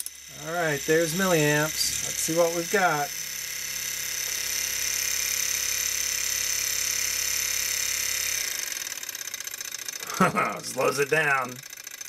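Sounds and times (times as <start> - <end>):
stirling engine whirring: 0.0 - 12.0.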